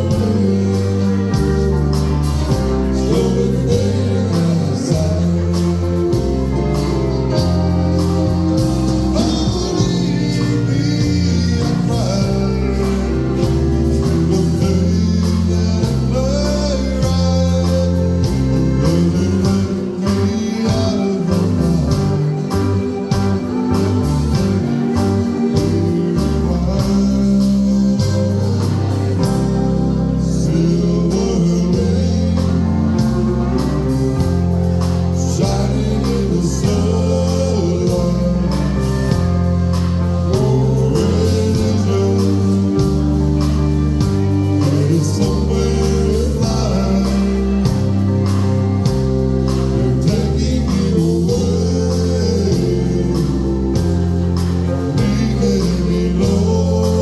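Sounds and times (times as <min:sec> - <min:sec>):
bass line: 0:00.0 - 0:57.0
live country band: 0:00.0 - 0:57.0
person singing: 0:00.0 - 0:57.0.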